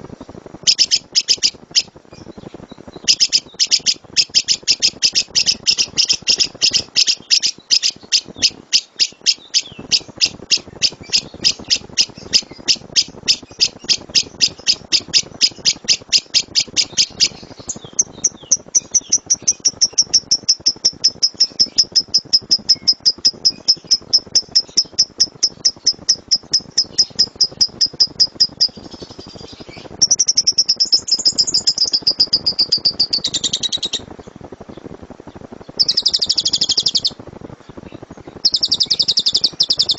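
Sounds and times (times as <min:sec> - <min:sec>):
lovebird chattering trill: 0:00.6 - 0:34.2, 0:35.7 - 0:37.2, 0:38.3 - 0:39.9.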